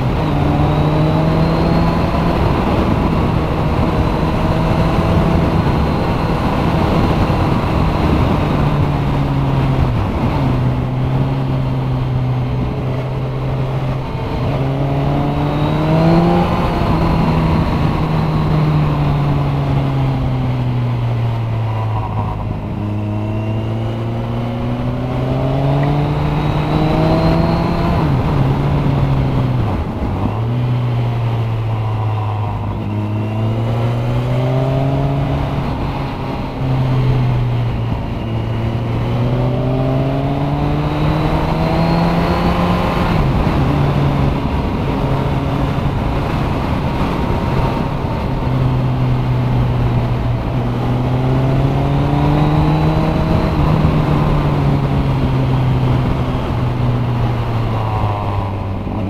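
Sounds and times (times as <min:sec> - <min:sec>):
motorcycle engine running: 0:00.0 - 0:59.0
wind across microphone: 0:00.0 - 0:59.0.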